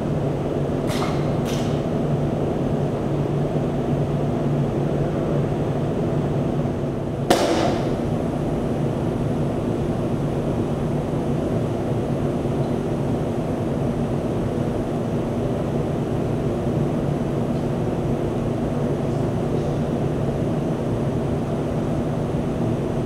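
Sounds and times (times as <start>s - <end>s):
air handling hum: 0.0s - 23.0s.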